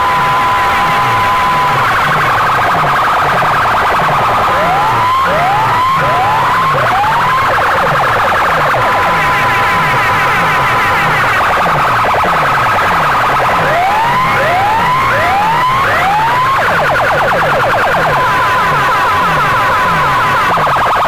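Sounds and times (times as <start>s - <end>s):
electronic siren sound effects: 0.0s - 21.0s.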